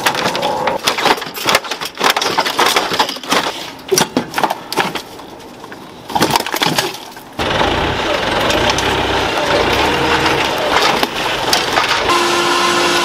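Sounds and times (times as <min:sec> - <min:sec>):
plastic parts clattering and snapping: 0:00.0 - 0:07.4, 0:08.4 - 0:12.1.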